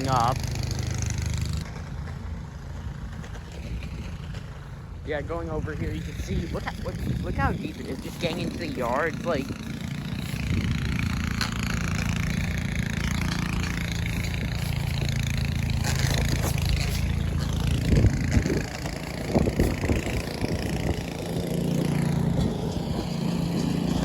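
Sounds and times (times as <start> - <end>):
snow blower engine running: 0.0 - 24.0.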